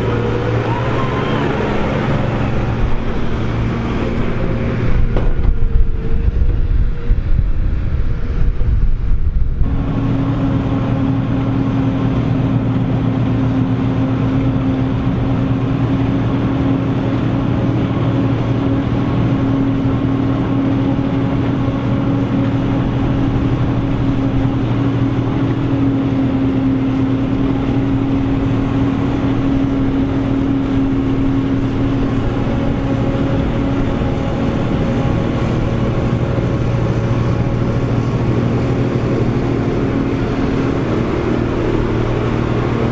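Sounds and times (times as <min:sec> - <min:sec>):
harvester engine droning: 0:00.0 - 0:42.9
rough rumble: 0:00.0 - 0:42.9.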